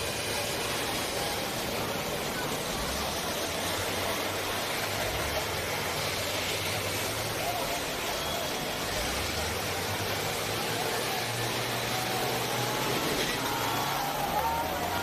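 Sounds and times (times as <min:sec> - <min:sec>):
bus engines droning: 0:00.0 - 0:15.0.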